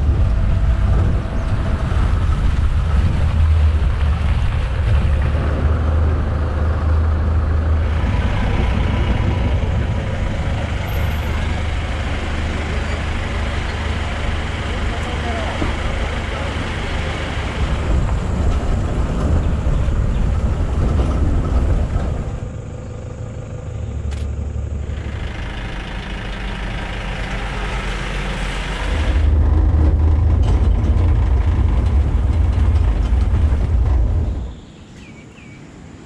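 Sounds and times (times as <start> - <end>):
vehicle engine running: 0.0 - 34.6
road rumble: 0.0 - 36.0.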